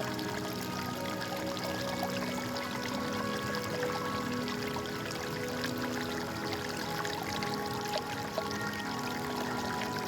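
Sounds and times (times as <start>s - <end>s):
soft background music: 0.0s - 10.0s
water pouring and trickling: 0.0s - 10.0s.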